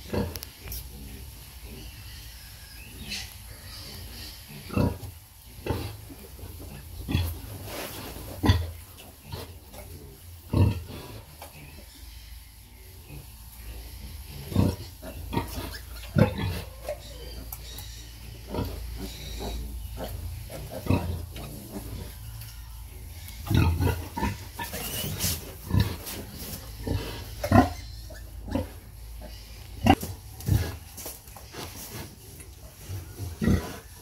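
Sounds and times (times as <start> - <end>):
pigs grunting: 3.0 - 12.2, 13.0 - 22.3, 23.0 - 30.9, 32.8 - 34.0.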